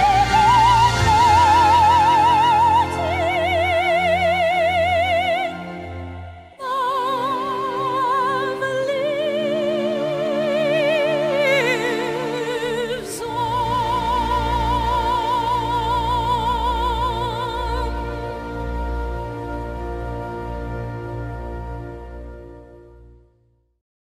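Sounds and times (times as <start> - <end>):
operatic singing voice: 0.0 - 21.2
instrumental accompaniment: 0.0 - 23.4.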